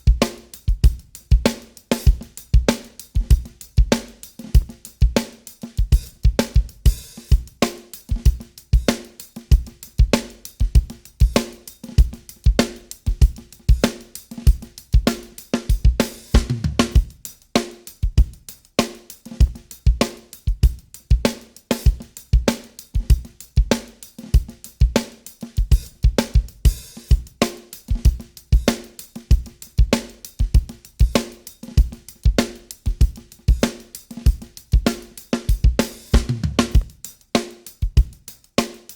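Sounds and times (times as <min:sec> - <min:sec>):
drum loop: 0:00.0 - 0:38.9.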